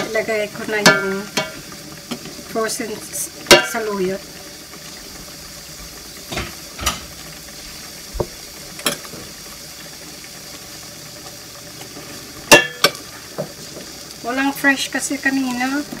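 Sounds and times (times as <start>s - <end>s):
low cooking hiss: 0.0s - 16.0s.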